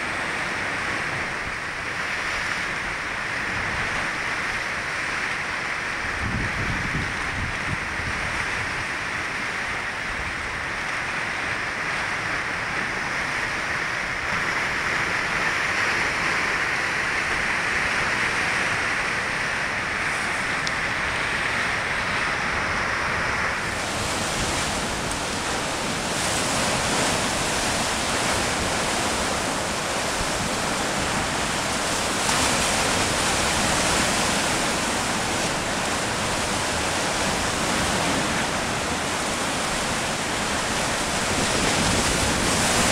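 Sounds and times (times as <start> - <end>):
sea surf washing against rocks: 0.0 - 42.9.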